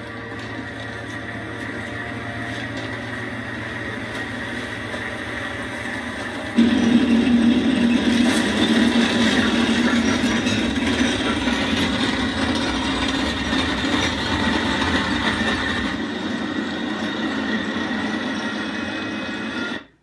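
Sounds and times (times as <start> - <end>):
tank tracks rumbling and clattering: 0.0 - 19.9.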